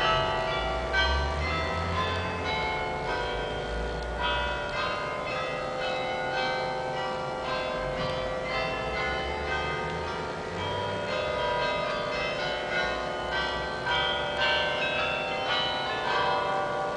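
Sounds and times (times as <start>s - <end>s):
carillon bells playing a melody: 0.0s - 16.9s.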